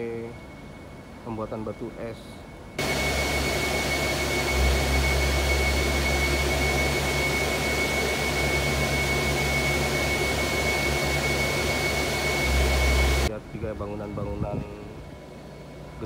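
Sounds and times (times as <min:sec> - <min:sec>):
machine whirring with high whine: 0:00.0 - 0:16.0.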